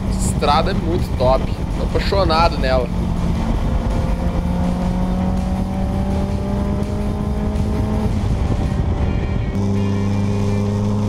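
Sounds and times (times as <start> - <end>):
motorcycle engine running: 0.0 - 11.0
wind and road rush: 0.0 - 11.0.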